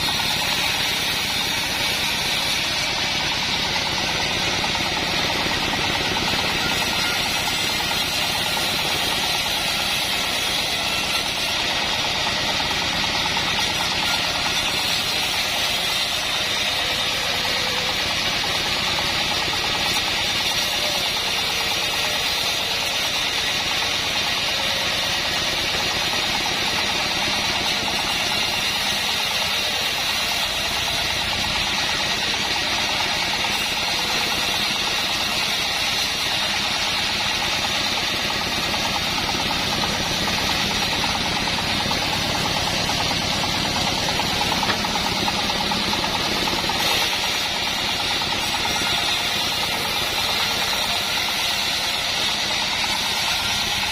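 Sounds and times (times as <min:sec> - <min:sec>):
band sawmill running: 0:00.0 - 0:53.9.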